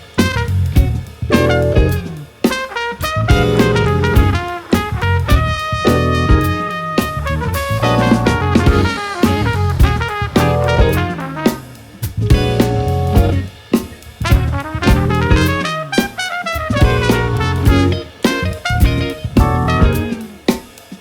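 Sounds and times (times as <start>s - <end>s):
bass: 0.0s - 2.4s, 3.0s - 16.0s, 16.6s - 20.3s
brass horns: 0.0s - 13.4s, 14.2s - 20.4s
drum kit: 0.0s - 21.0s.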